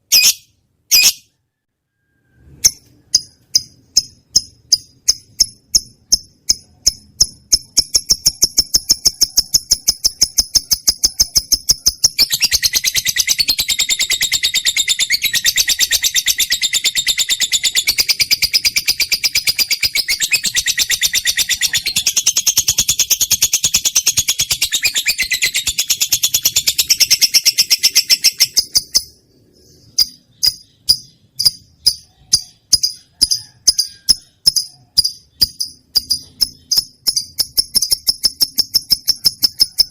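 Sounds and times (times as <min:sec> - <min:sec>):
lovebird chirping trill: 0:00.0 - 0:39.9.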